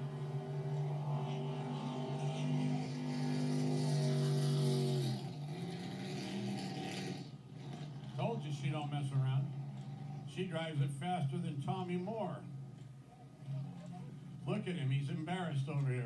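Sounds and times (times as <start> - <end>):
boat engine at full throttle: 0.0 - 14.7.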